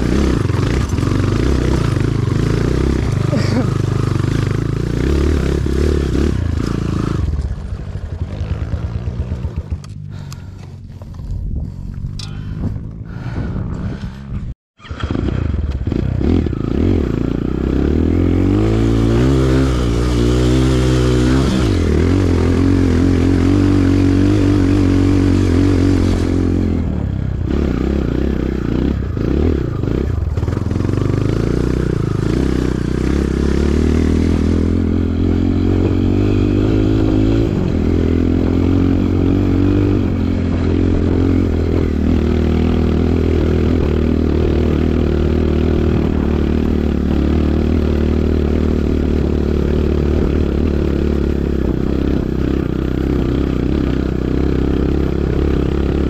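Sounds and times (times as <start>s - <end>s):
trail bike engine revving: 0.0s - 56.0s.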